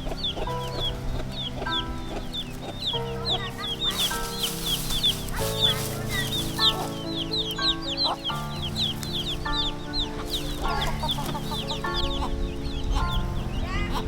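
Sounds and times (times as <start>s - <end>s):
background music with held notes: 0.0s - 14.0s
chicks peeping: 0.0s - 14.0s.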